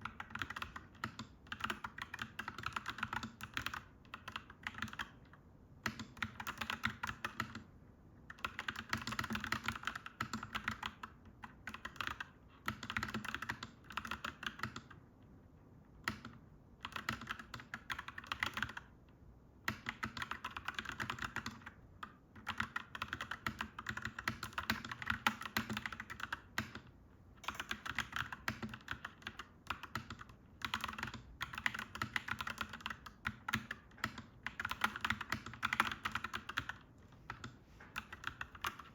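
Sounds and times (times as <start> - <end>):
mechanical keyboard typing: 0.0 - 7.7, 8.3 - 15.0, 16.0 - 19.0, 19.6 - 38.9.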